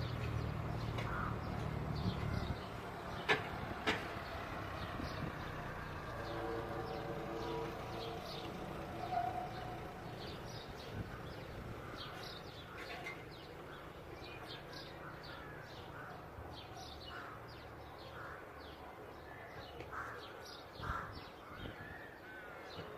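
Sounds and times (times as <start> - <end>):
birds calling: 0.0 - 22.9.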